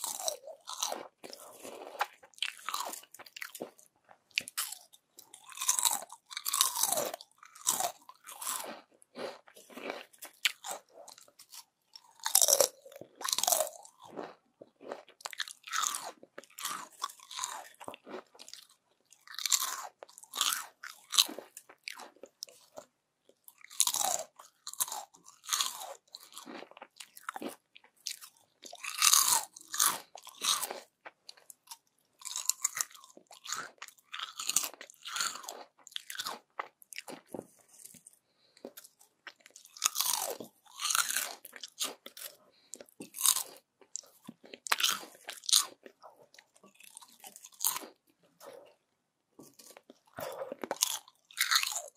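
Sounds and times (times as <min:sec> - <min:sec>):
chips crunching while chewed: 0:00.0 - 0:48.8, 0:49.4 - 0:51.9.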